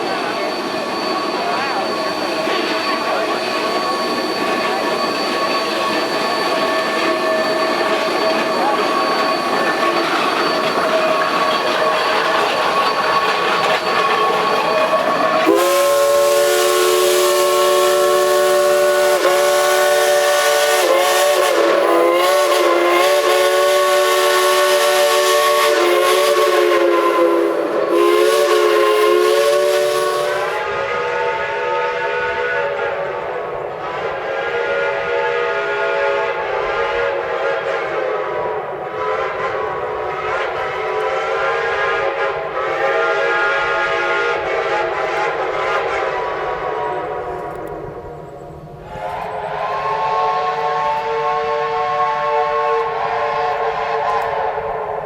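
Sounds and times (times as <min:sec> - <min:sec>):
steam locomotive whistle: 0:00.0 - 0:55.0.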